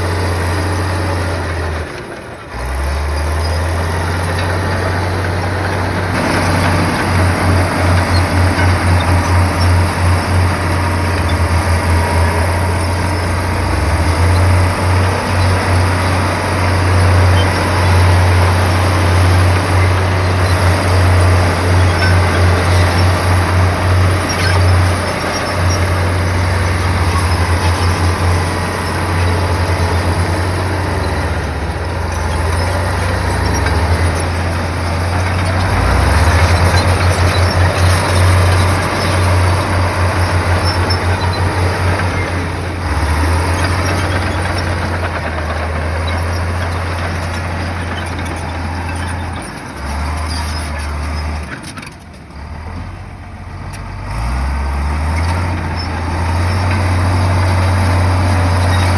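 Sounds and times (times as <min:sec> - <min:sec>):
diesel engine rumbling: 0:00.0 - 0:58.9.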